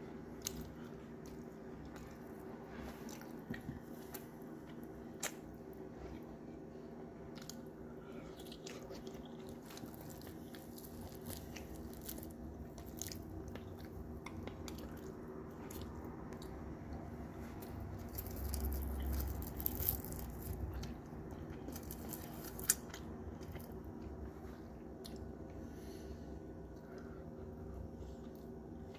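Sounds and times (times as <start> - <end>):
person chewing and crunching: 0.3 - 6.4, 7.2 - 25.9.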